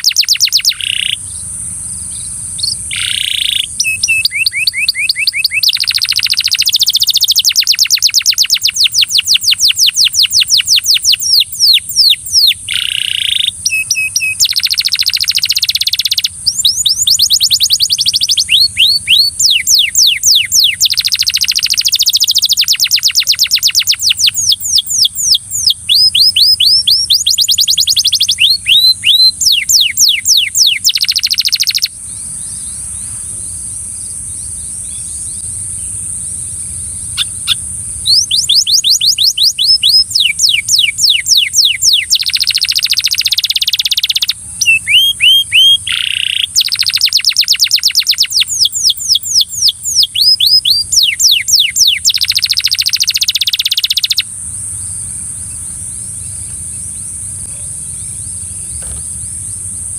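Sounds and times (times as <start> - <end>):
steady high hiss: 0.0 - 50.2, 52.0 - 59.9
canary singing fast trills: 0.0 - 59.9.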